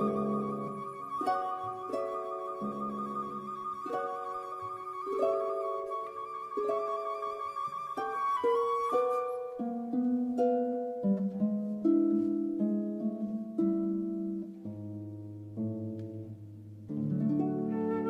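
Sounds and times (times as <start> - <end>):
plucked string melody: 0.0 - 18.0.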